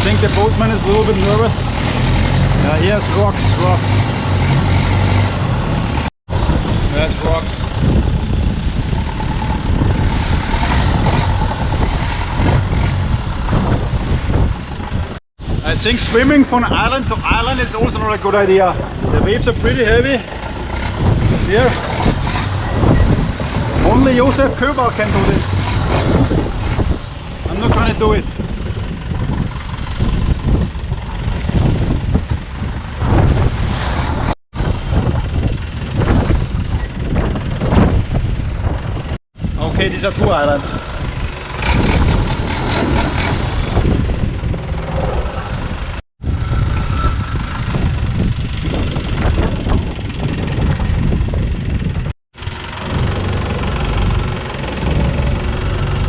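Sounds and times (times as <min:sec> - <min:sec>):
boat engine running: 0:00.0 - 0:15.2, 0:17.9 - 0:56.0
wind buffeting microphone: 0:00.0 - 0:56.0.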